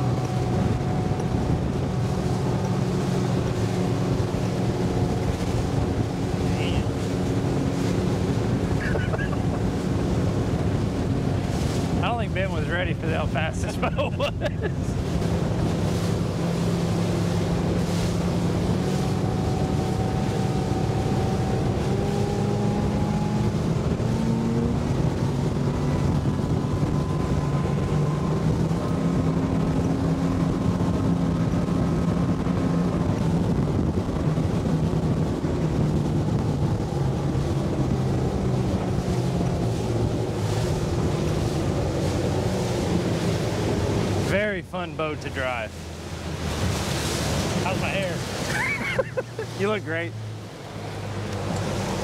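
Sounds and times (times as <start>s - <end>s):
outboard motor running: 0.0s - 52.0s
water rushing past hull: 0.0s - 52.0s
wind on microphone: 0.0s - 52.0s.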